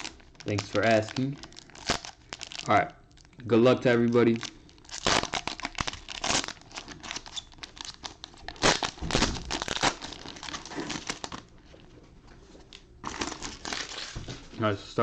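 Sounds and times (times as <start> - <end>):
plastic wrapping crinkling and tearing: 0.0 - 11.9, 12.6 - 14.6.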